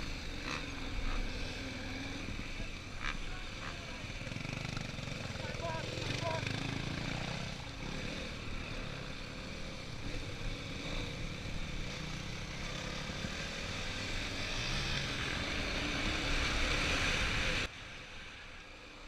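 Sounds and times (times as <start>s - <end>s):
dirt bike engines running: 0.0s - 19.0s.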